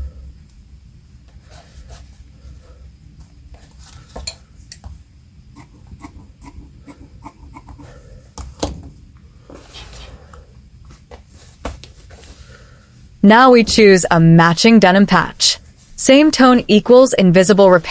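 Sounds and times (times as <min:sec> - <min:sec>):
faint low room hum: 0:00.0 - 0:17.9.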